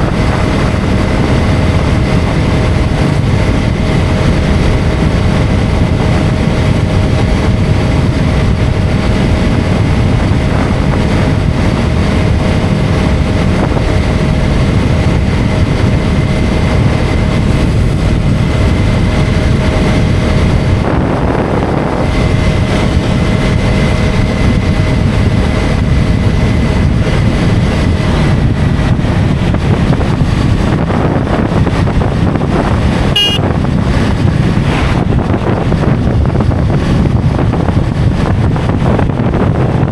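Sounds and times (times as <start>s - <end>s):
steady whine: 0.0s - 39.2s
motorcycle engine running: 0.0s - 39.9s
wind rush: 0.0s - 39.9s.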